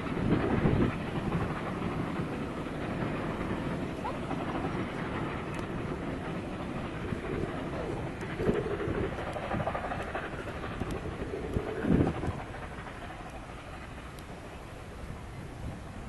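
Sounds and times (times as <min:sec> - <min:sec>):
distant train rumbling on rails: 0:00.0 - 0:16.0.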